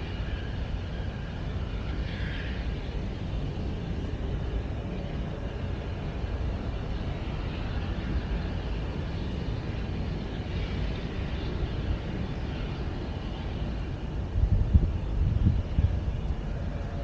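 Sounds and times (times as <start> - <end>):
low outdoor rumble: 0.0 - 17.0
low wind buffeting: 0.0 - 17.0.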